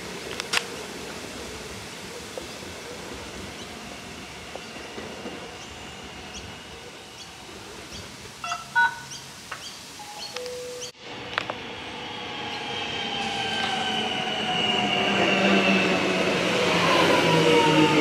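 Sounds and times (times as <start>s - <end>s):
electric train running on track: 0.0s - 8.2s, 10.1s - 18.0s.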